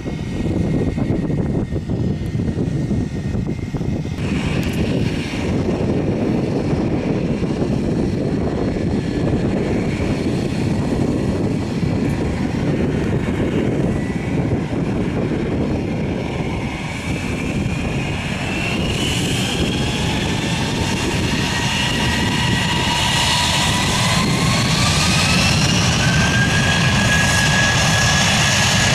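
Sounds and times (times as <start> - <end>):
jet engines rumbling with whine: 0.0 - 28.9.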